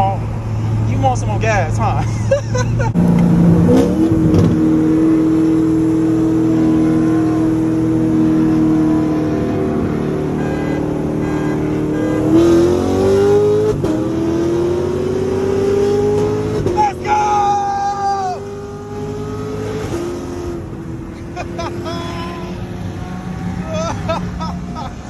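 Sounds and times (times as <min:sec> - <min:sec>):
car engine revving: 0:02.5 - 0:25.0.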